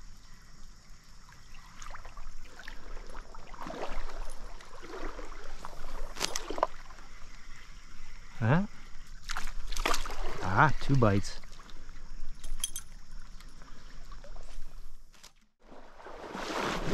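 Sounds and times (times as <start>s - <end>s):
water sloshing from wading legs: 1.2s - 16.9s.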